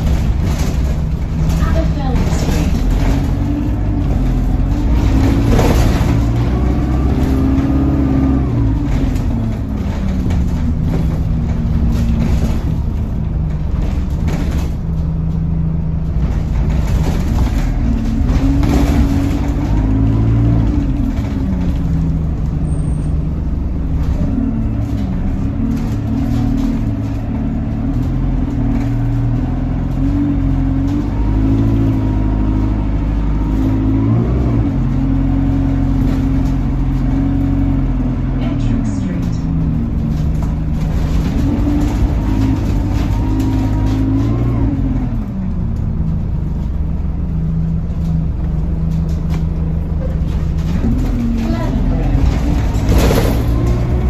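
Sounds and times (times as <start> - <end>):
bus body knocks and rattles: 0.0 - 54.0
bus diesel engine rumbling: 0.0 - 54.0.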